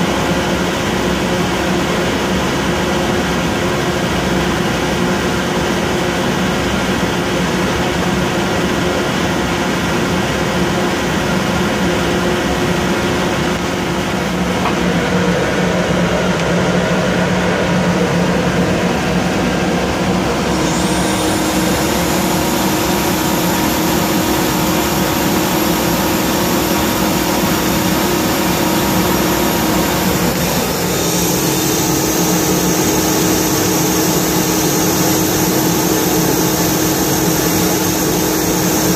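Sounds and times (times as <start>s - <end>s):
air compressor hum: 0.0s - 38.9s
high whine: 3.0s - 38.9s.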